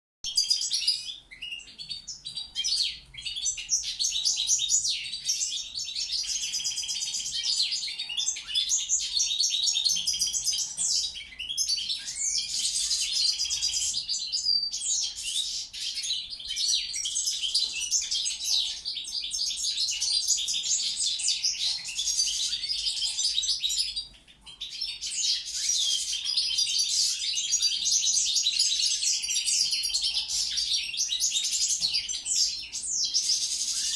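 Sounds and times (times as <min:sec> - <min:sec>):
goldfinch twittering song: 0:00.2 - 0:33.9.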